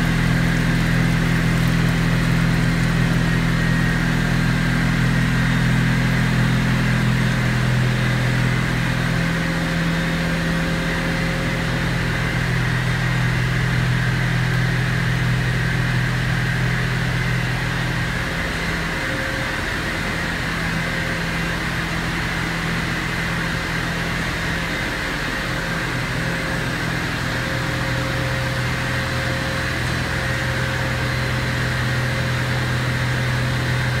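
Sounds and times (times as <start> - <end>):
high steady whine: 0.0 - 34.0
machinery low hum: 0.0 - 34.0.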